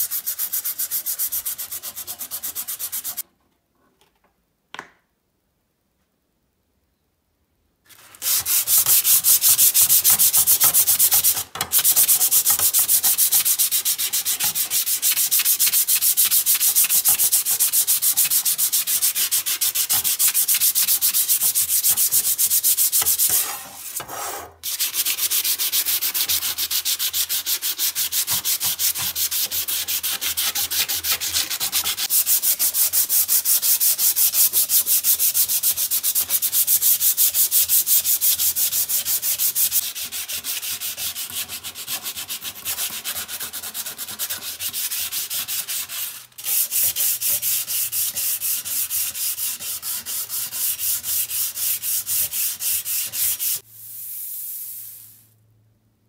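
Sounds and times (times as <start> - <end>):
sandpaper rasping on metal: 0.0 - 3.2, 8.0 - 53.6.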